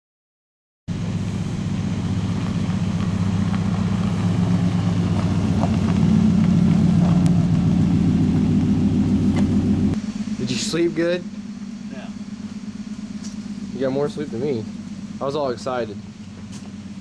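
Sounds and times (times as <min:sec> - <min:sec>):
car engine and road drone: 0:00.9 - 0:17.0.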